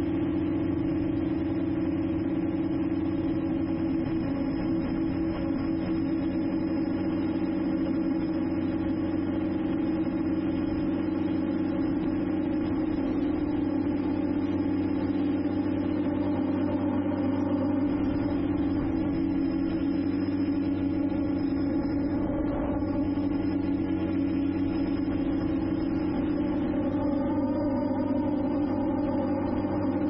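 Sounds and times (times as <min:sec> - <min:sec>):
drone motors humming: 0:00.0 - 0:30.0.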